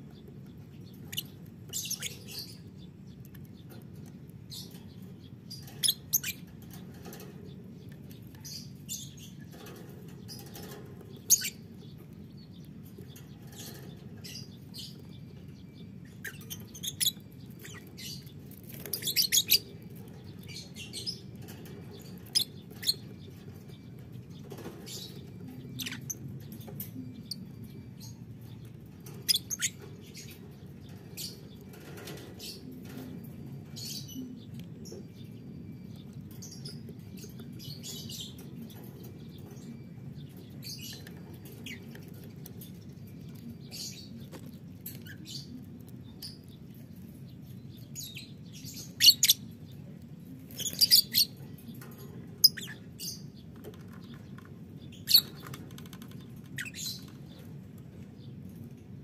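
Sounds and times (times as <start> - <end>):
lovebirds chirping: 0.0 - 58.8
steady low hum: 0.0 - 59.0
wings and feet scuffling in cage: 0.0 - 59.0.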